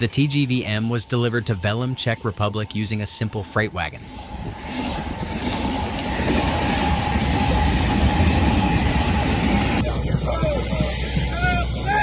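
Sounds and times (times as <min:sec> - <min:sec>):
freight train rumble: 0:00.0 - 0:12.0
thin whine: 0:00.0 - 0:12.0.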